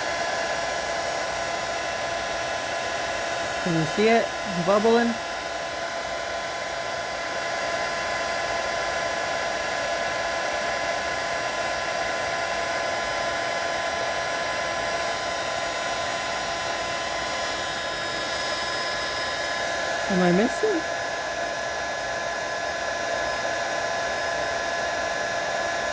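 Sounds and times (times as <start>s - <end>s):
heat gun blowing air: 0.0s - 25.9s.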